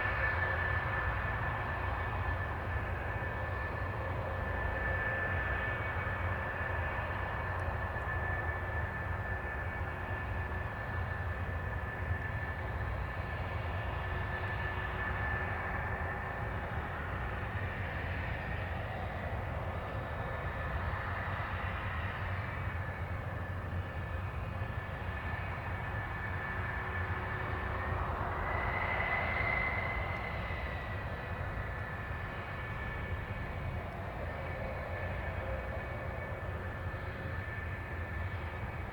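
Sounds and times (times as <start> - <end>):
jet engine whine and rumble: 0.0 - 38.9.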